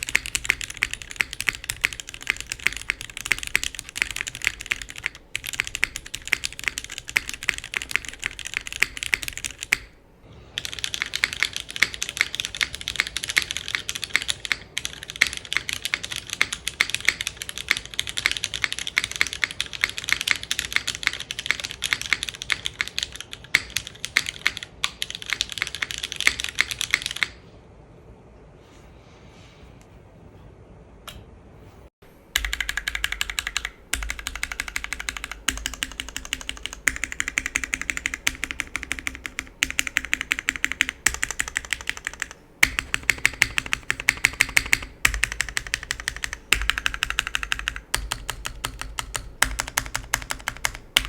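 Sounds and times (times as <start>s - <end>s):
mechanical keyboard typing: 0.0s - 10.0s, 10.6s - 27.4s, 32.3s - 51.0s.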